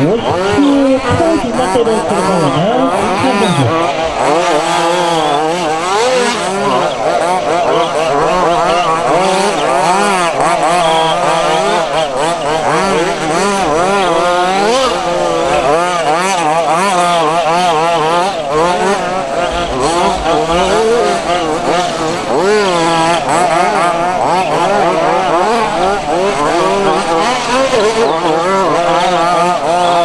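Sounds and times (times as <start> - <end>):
small two-stroke engines revving: 0.0 - 30.0.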